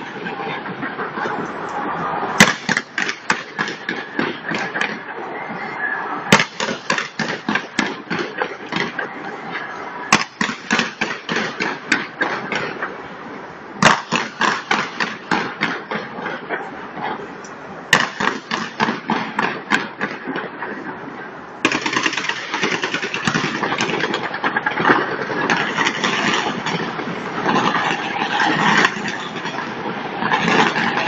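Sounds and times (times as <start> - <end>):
fireworks bangs and crackles: 0.0 - 17.3, 17.9 - 31.0
crowd noise: 0.0 - 31.0.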